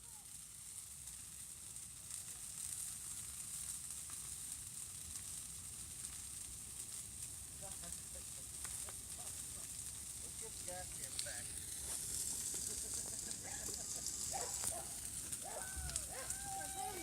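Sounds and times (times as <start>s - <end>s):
bonfire hissing and crackling: 0.0s - 17.0s.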